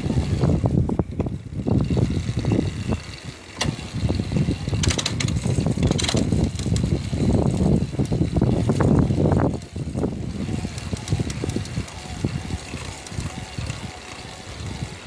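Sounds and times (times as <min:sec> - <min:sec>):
drive unit low rumble: 0:00.0 - 0:15.0.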